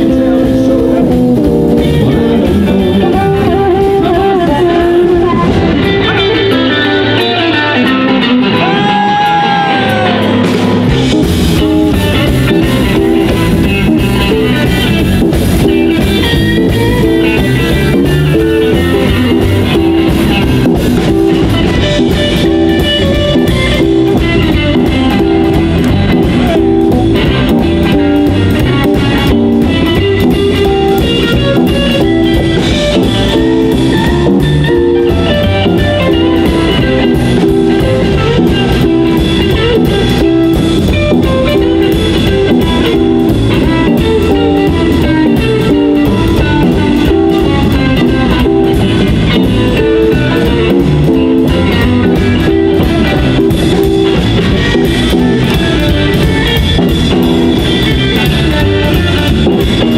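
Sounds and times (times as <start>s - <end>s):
lead electric guitar: 0.0s - 59.9s
live band instrumental: 0.0s - 59.9s.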